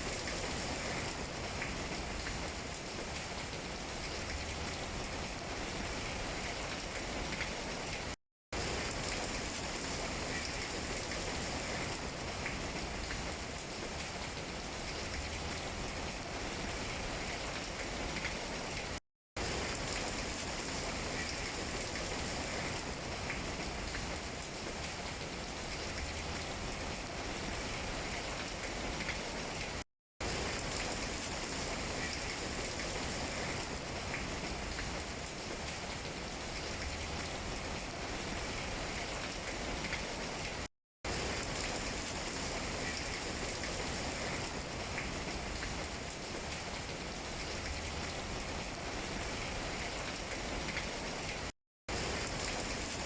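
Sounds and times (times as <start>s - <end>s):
rain falling on leaves: 0.0s - 53.0s.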